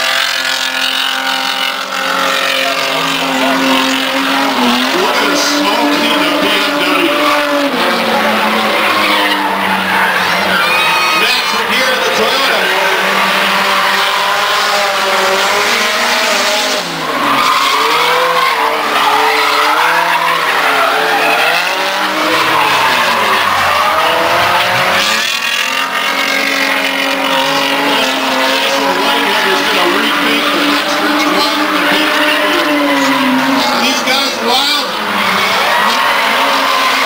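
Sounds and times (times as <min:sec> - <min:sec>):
car engines revving: 0:00.0 - 0:37.0
tyres skidding and squealing: 0:00.0 - 0:37.0.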